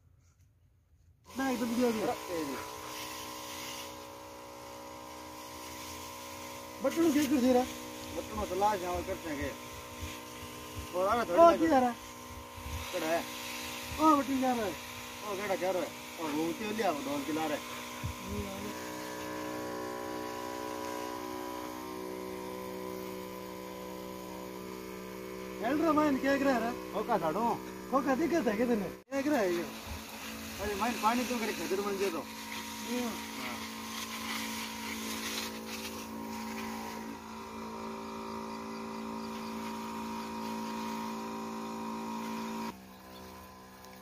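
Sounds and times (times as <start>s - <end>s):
spray hissing from lance: 1.3s - 42.8s
electric pump humming: 1.3s - 44.0s.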